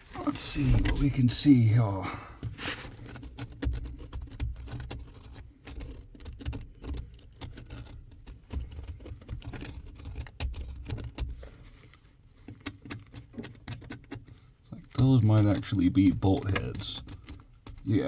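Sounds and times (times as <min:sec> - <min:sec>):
handling clicks and scratches: 0:02.4 - 0:18.0.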